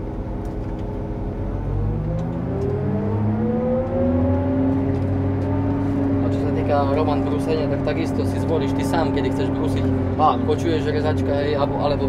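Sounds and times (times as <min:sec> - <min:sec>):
harvester engine revving up: 0:01.3 - 0:12.0.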